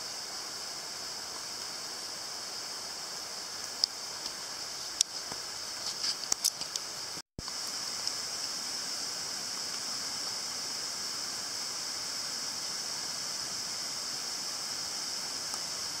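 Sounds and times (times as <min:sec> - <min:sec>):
insects chorus drone: 0:00.0 - 0:16.0.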